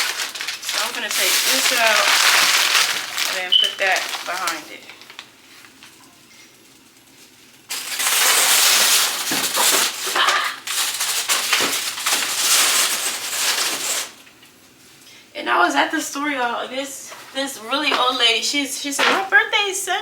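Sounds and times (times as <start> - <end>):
plastic wrap crinkling: 0.0 - 15.0, 17.1 - 18.4.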